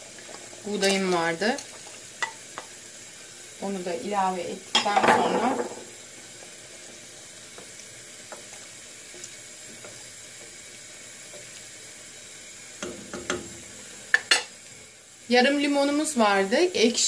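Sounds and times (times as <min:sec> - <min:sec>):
soup boiling in a pot: 0:00.0 - 0:17.0.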